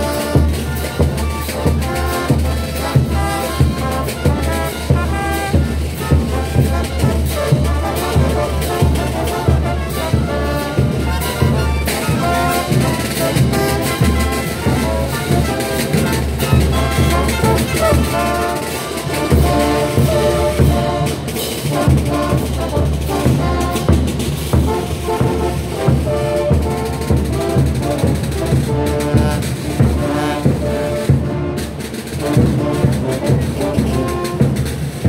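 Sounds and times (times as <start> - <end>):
bass drum marching beat: 0.0 - 35.0
street brass band playing: 0.0 - 35.0.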